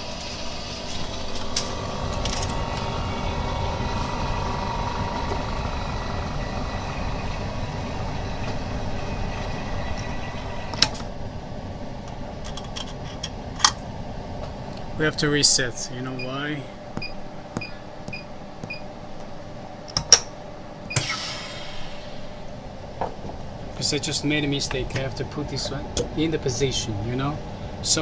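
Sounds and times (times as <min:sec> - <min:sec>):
laminating machine humming: 0:00.0 - 0:28.0.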